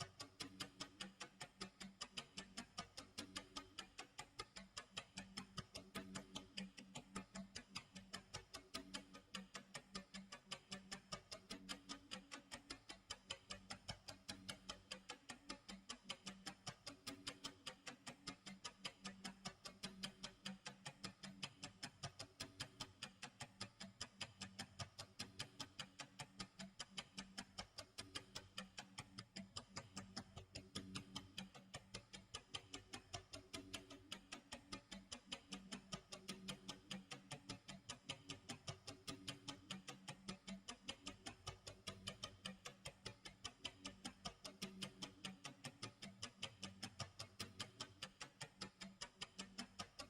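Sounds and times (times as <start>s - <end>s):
clock ticking: 0.0s - 50.0s.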